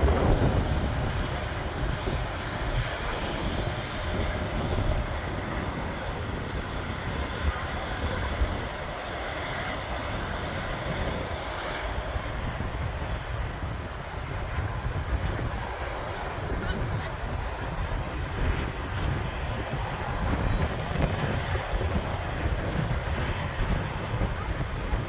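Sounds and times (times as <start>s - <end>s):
jet engines at takeoff: 0.0s - 25.0s.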